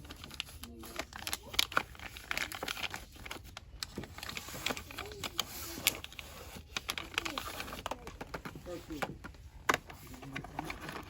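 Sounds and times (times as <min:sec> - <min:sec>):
faint voices of shoppers: 0:00.0 - 0:11.0
packaging crinkling and tapping: 0:00.0 - 0:11.0.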